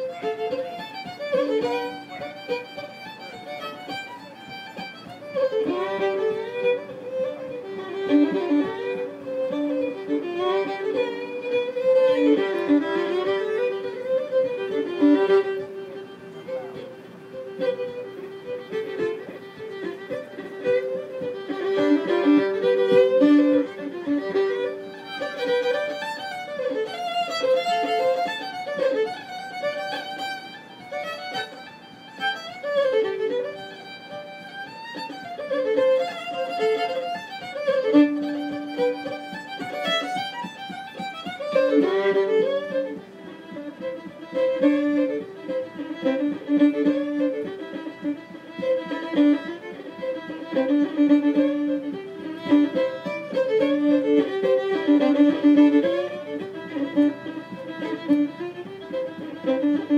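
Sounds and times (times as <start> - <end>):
fiddle playing a reel: 0.0 - 59.9.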